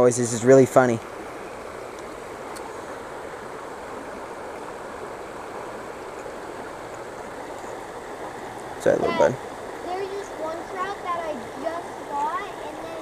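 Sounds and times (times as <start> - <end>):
water rushing over stones: 0.0 - 13.0.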